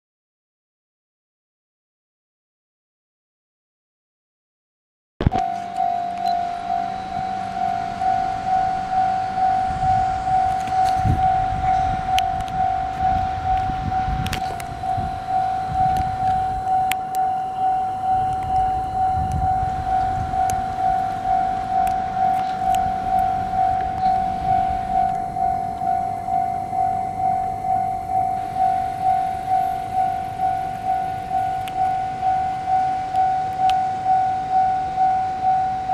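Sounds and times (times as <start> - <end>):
level crossing alarm ringing: 5.2 - 35.9.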